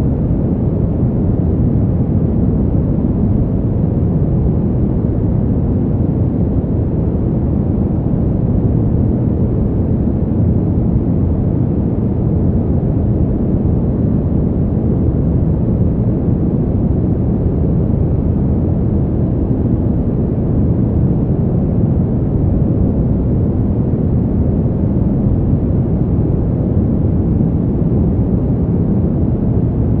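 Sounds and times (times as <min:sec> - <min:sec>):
deep rushing wind: 0:00.0 - 0:30.0.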